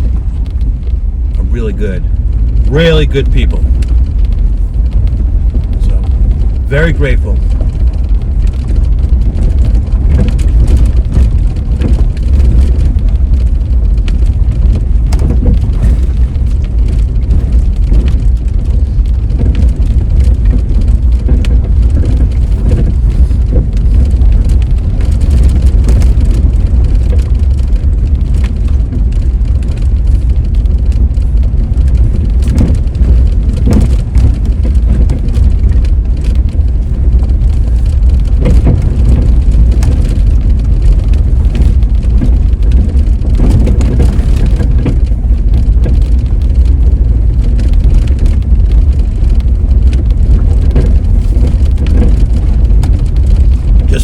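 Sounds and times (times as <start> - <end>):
car engine and tyres rumbling: 0.0 - 54.0
knocks and rattles: 0.0 - 54.0.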